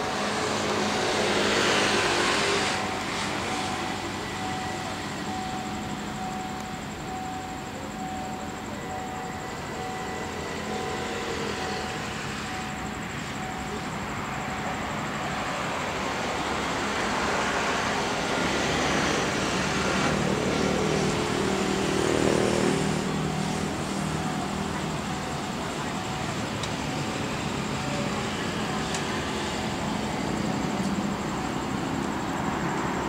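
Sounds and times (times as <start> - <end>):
steam locomotive running: 0.0 - 33.0.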